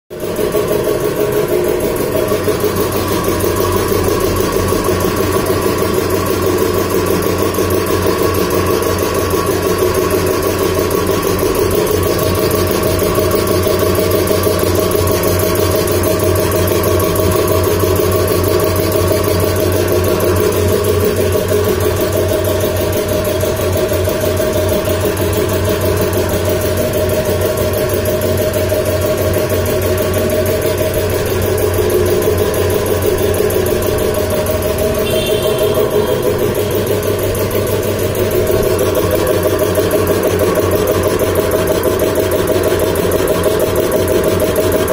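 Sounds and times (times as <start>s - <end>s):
air compressor running: 0.1s - 44.9s.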